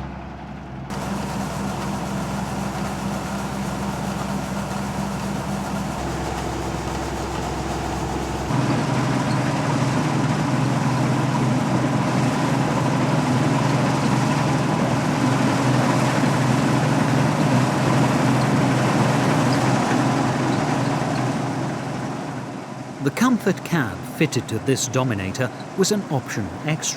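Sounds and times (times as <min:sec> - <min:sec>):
combine harvester engine drone: 0:00.0 - 0:26.9
harvester machinery noise: 0:00.0 - 0:26.9.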